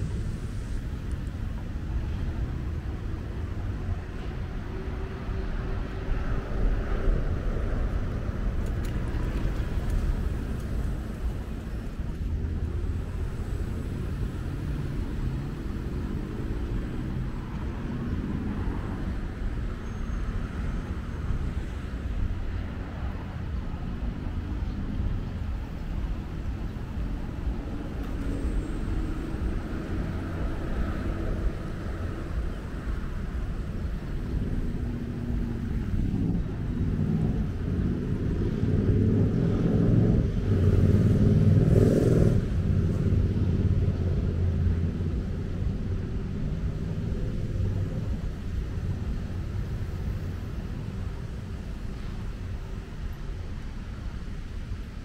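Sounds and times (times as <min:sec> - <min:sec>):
low rumble of road traffic: 0:00.0 - 0:55.0
vehicles passing: 0:00.0 - 0:55.0.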